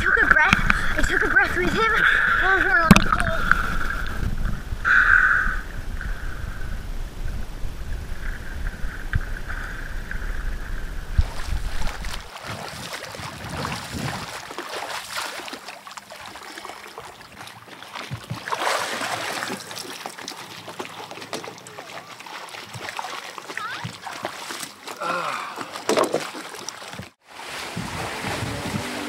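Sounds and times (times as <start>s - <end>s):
water splashing: 0.0s - 6.6s, 7.3s - 29.0s
low rumble of water and wind: 0.0s - 29.0s.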